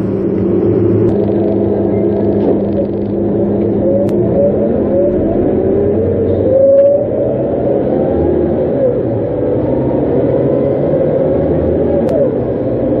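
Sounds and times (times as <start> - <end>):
bus engine and gearbox whine: 0.0 - 13.0
low rumble: 0.0 - 13.0.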